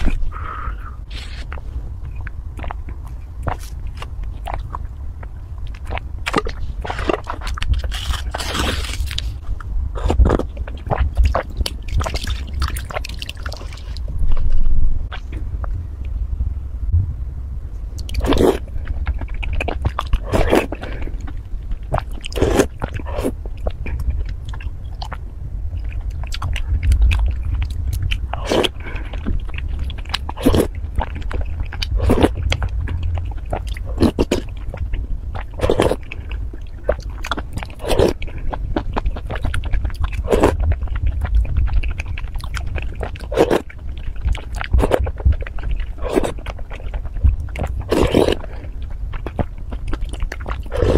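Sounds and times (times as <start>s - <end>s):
biting and chewing: 0.0s - 0.4s, 1.1s - 15.8s, 17.9s - 50.9s
steady low rumble: 0.0s - 50.9s.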